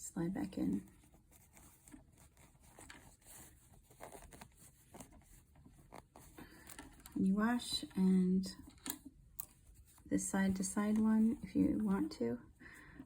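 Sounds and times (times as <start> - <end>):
cloth face mask rustling: 0.0 - 13.0.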